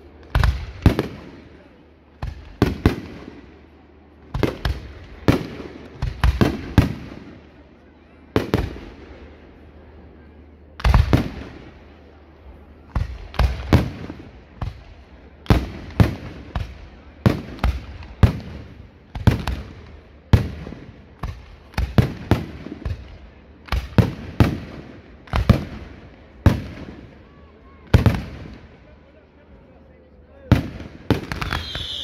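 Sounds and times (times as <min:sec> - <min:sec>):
fireworks bangs: 0:00.0 - 0:07.6, 0:08.3 - 0:09.3, 0:10.8 - 0:12.1, 0:12.8 - 0:28.9, 0:30.5 - 0:32.0.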